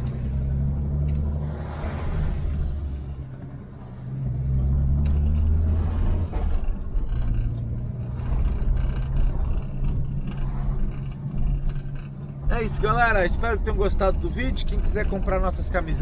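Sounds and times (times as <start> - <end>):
car engine from inside cabin: 0.0 - 16.0.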